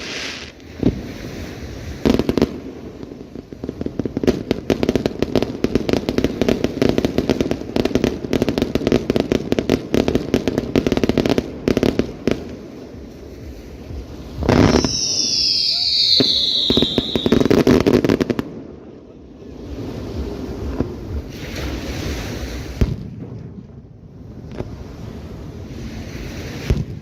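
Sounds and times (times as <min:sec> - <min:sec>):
fireworks crackling pops: 0:00.0 - 0:18.8, 0:19.7 - 0:27.0
fireworks bangs: 0:00.0 - 0:27.0.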